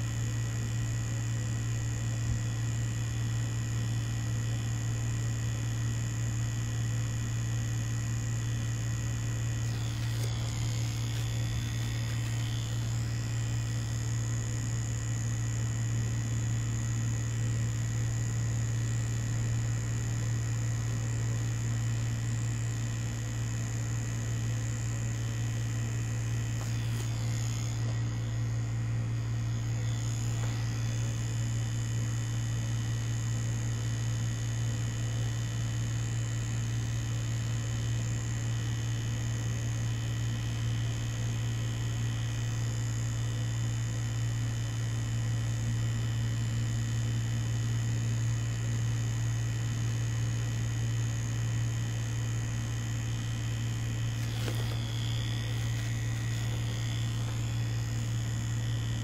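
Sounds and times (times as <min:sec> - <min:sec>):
tattoo machine buzzing: 0:00.0 - 0:59.0.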